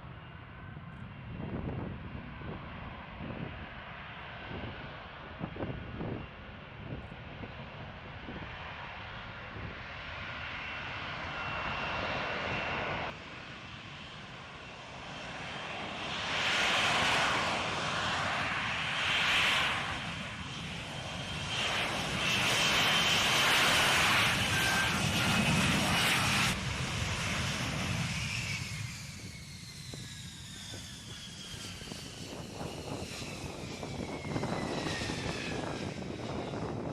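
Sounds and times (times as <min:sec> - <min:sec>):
jet engine whine and rush: 0:00.0 - 0:36.9.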